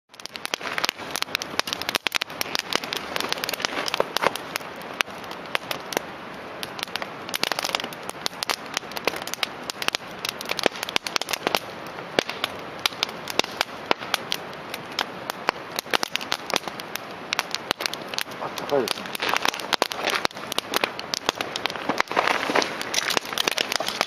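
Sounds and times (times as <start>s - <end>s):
burning wood snapping and popping: 0.1s - 24.0s
campfire hissing: 0.1s - 24.0s.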